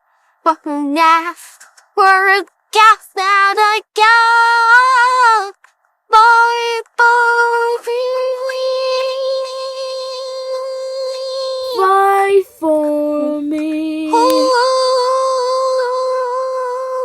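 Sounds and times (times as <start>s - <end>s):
high voice singing wordlessly: 0.5s - 17.0s.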